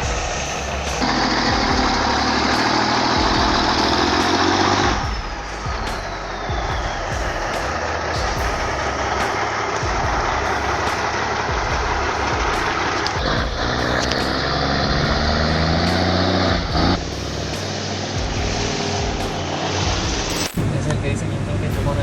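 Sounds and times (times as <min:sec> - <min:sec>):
heavy truck engine running: 0:00.0 - 0:22.0
steady engine tone: 0:00.0 - 0:22.0.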